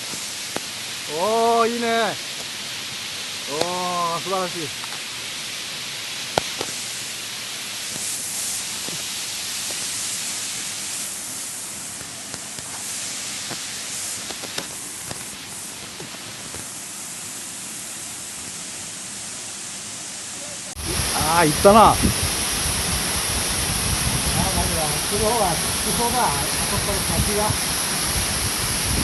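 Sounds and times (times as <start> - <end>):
waterfall hiss: 0.0 - 29.0.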